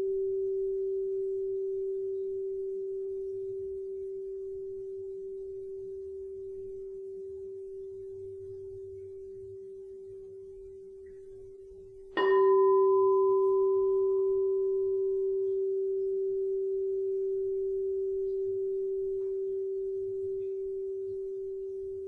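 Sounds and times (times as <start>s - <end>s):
crystal singing bowl ringing: 0.0s - 22.0s.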